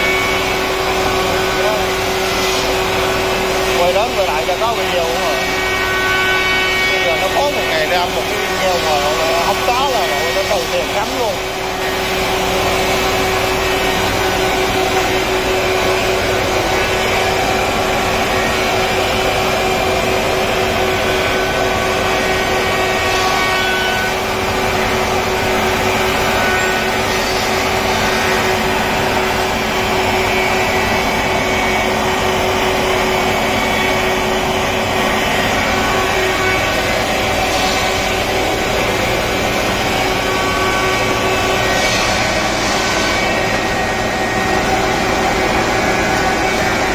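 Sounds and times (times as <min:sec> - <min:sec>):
wood planer machine running: 0:00.0 - 0:46.9.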